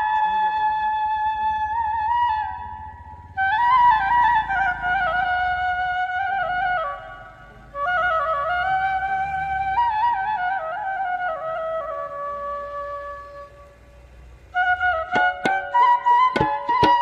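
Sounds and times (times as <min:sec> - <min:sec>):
flute playing folk melody: 0:00.0 - 0:13.8, 0:14.5 - 0:17.0.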